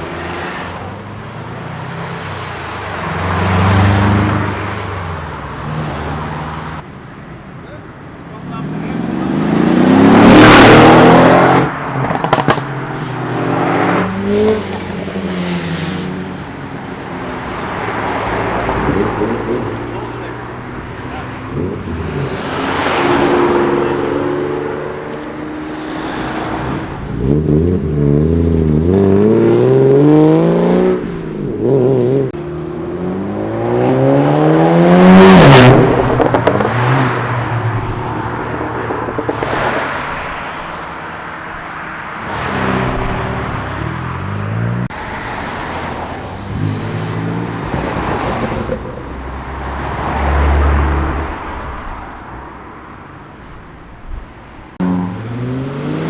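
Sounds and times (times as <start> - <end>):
cars accelerating hard: 0.0 - 6.8, 8.3 - 52.0, 54.7 - 56.0.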